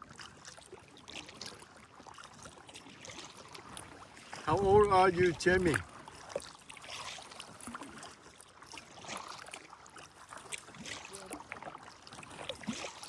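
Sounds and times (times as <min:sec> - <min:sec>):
paddle splashes in calm water: 0:00.0 - 0:13.0
water dripping from paddle: 0:00.0 - 0:13.0.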